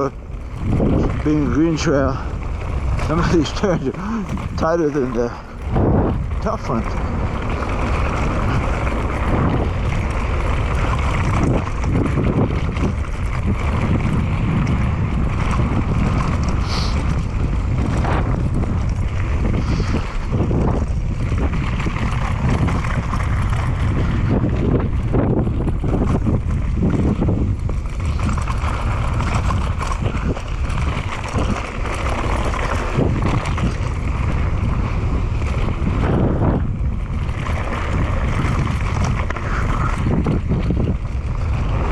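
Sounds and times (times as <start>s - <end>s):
bike rattling: 0.0s - 41.9s
bike tyres rolling on dirt: 0.0s - 41.9s
wind buffeting microphone: 0.0s - 41.9s.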